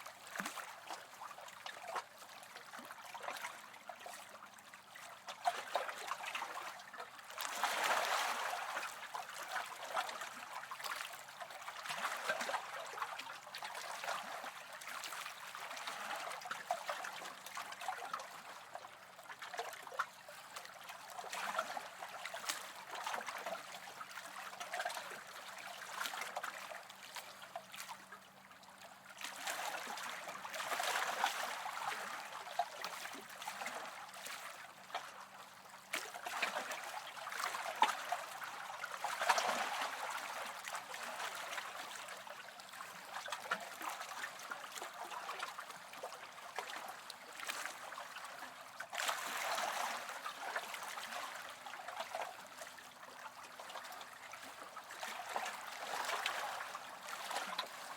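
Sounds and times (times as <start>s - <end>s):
small waves lapping on shore: 0.0s - 57.9s.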